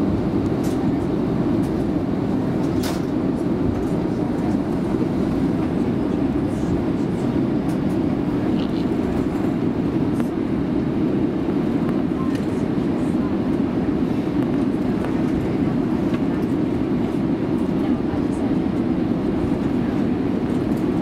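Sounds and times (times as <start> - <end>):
jet engines idling rumble: 0.0 - 21.0.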